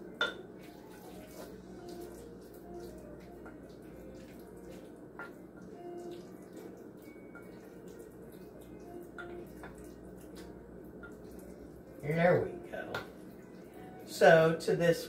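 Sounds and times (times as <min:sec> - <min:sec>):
soft wet mixing: 0:00.0 - 0:15.0.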